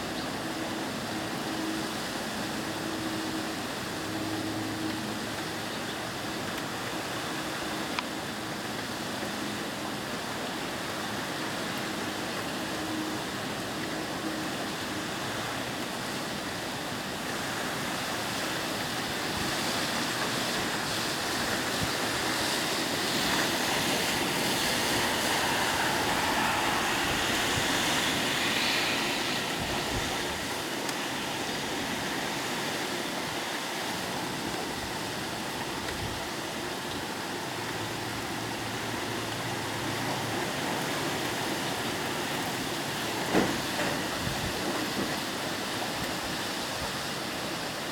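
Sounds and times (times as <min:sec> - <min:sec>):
heavy rain pouring with wind: 0:00.0 - 0:47.9.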